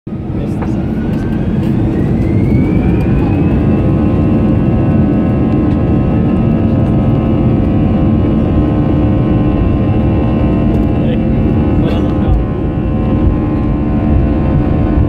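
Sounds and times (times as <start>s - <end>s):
jet engine whine: 0.1s - 15.0s
low engine rumble: 0.1s - 15.0s.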